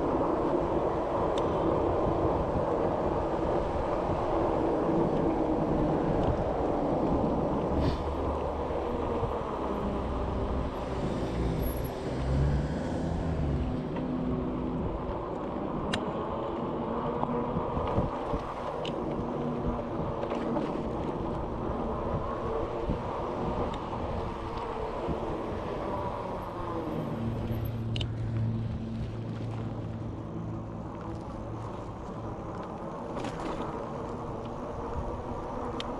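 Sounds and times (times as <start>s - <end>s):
road and wind rumble: 0.0s - 35.9s
vehicle engine hum: 0.0s - 35.9s.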